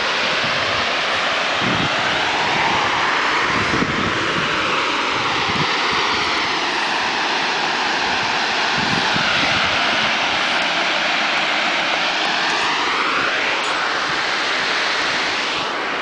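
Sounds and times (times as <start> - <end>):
aircraft roaring overhead: 0.0 - 16.0
wind gusts on microphone: 0.0 - 16.0.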